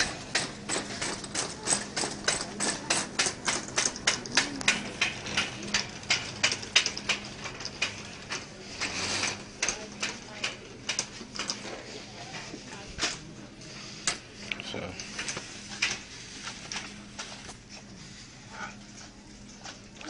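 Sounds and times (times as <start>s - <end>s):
shopping cart rolling on tiles: 0.0s - 18.2s.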